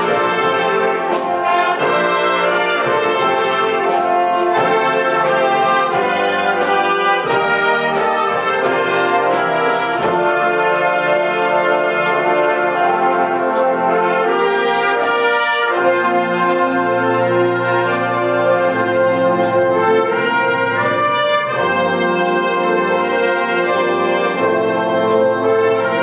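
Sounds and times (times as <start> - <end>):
marching band playing: 0.0 - 26.0.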